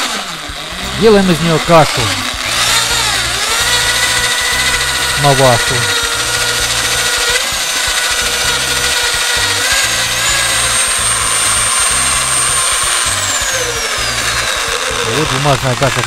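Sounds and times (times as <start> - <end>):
electric drill stirring pulp: 0.0 - 16.0.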